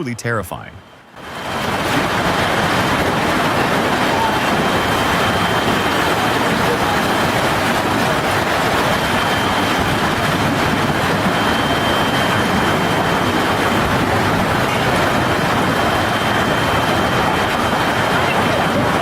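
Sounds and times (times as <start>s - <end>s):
storm wind roaring: 0.8s - 19.0s
driving rain: 1.0s - 19.0s.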